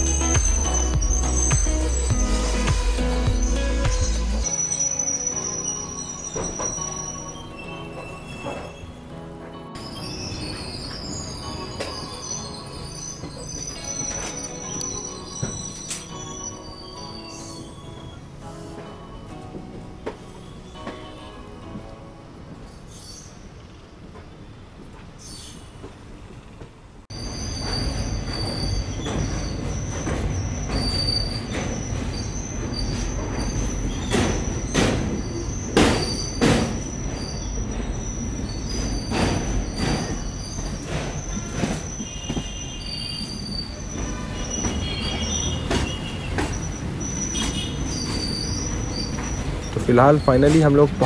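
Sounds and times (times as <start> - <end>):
train rumbling on rails: 0.0 - 9.0, 9.8 - 51.0
train wheel squeal: 0.0 - 9.1, 9.8 - 19.2, 22.7 - 51.0.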